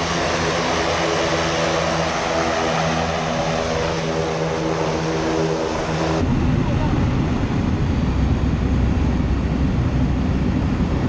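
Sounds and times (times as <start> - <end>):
propeller aircraft engine droning: 0.0 - 11.0.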